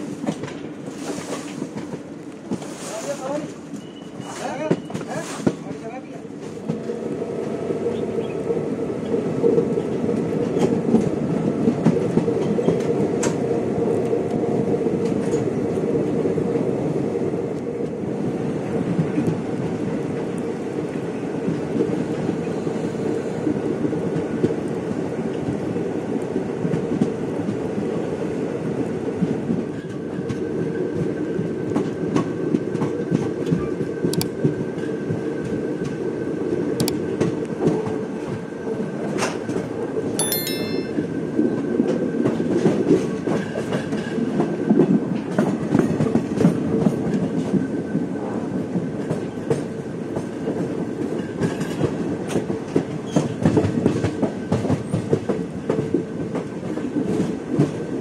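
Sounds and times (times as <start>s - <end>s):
train wheels clattering on track: 0.0s - 16.7s, 18.7s - 39.8s, 41.8s - 58.0s.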